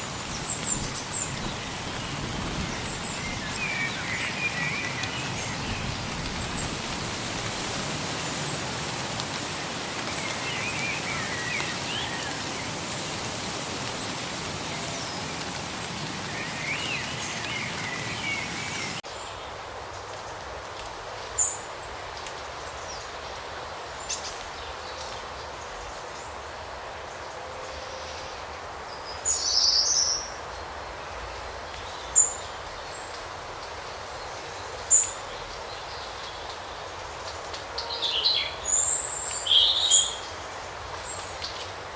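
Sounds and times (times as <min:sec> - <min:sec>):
steady background hiss: 0:00.0 - 0:41.9
wild birds chirping: 0:00.0 - 0:41.9.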